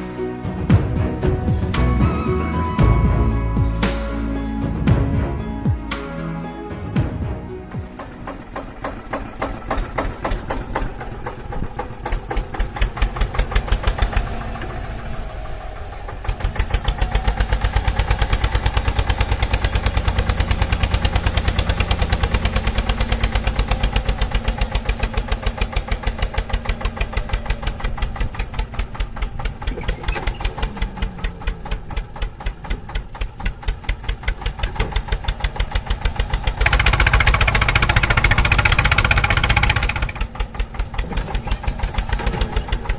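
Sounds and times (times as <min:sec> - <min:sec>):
vehicle engine chugging: 0:06.9 - 0:42.9.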